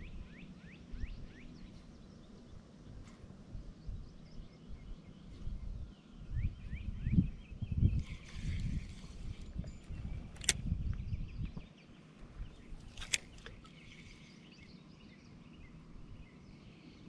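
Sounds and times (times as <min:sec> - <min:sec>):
wind rumble on microphone: 0:00.0 - 0:14.2
birds chirping faintly: 0:00.0 - 0:17.0.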